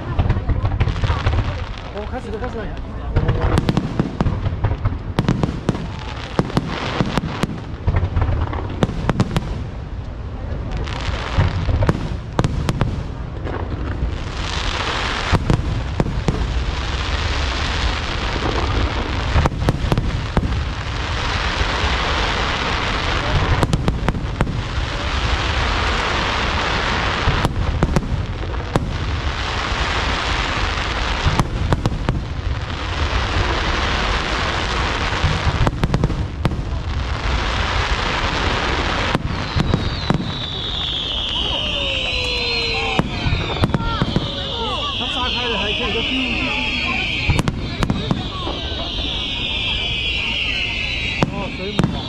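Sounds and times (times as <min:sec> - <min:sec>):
continuous noisy hiss: 0:00.0 - 0:52.0
fireworks bangs: 0:00.0 - 0:52.0.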